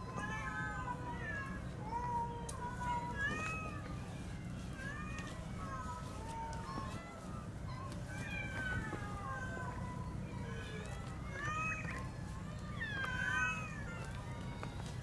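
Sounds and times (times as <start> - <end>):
cats meowing: 0.0 - 15.0.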